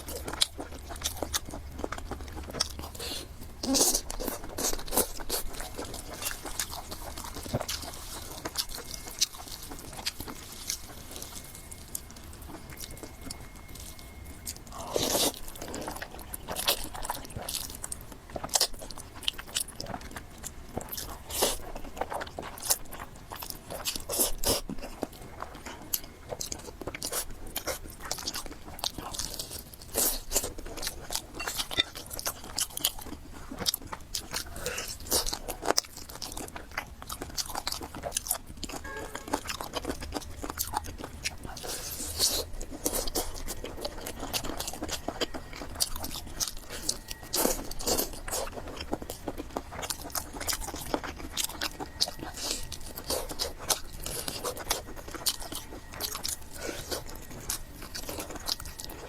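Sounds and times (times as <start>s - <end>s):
person chewing and crunching food: 0.0s - 59.0s.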